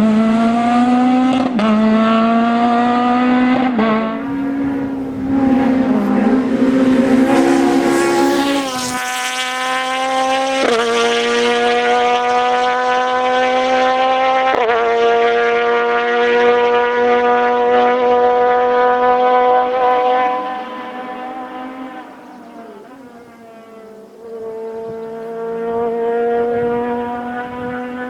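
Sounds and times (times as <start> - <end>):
rally car engine accelerating: 0.0 - 28.0.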